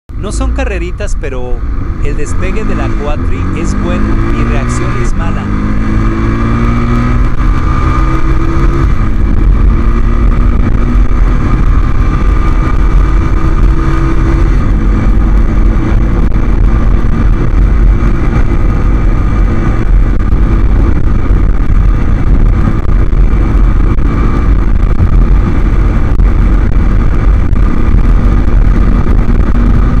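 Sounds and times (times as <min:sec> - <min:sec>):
atv engine running hard: 0:02.1 - 0:30.0.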